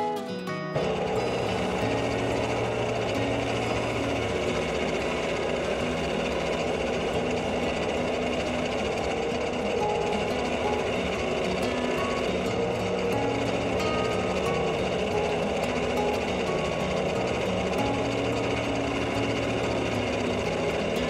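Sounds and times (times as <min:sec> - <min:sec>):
lathe motor hum: 0:00.7 - 0:21.0
polishing hiss on spinning bowl: 0:00.8 - 0:21.0.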